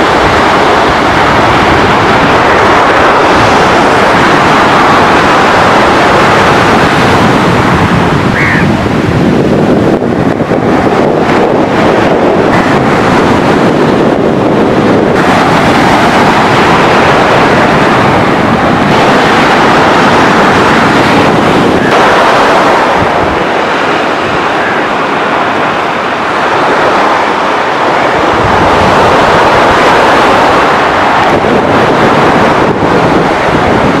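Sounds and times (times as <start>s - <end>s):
surf breaking on sandy shore: 0.0s - 34.0s
wind buffeting microphone: 0.0s - 34.0s.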